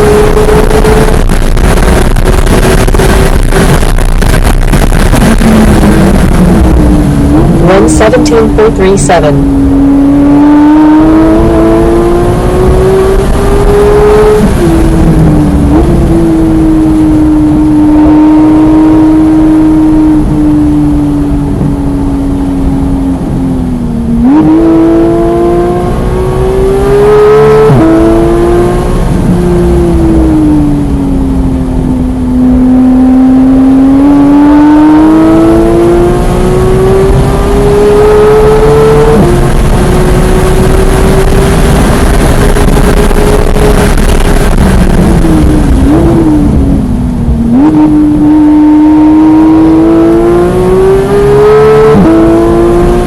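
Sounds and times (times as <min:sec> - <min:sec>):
car engine revving with gear changes: 0:00.0 - 0:53.0.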